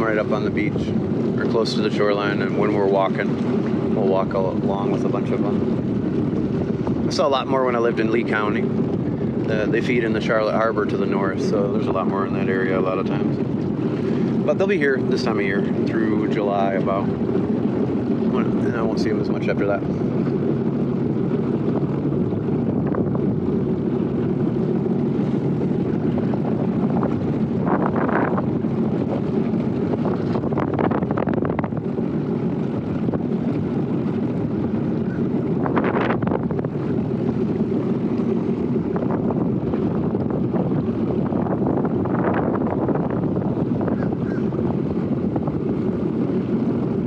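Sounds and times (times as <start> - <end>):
watercraft engine running: 0.0 - 47.0
wind on microphone: 0.0 - 47.0.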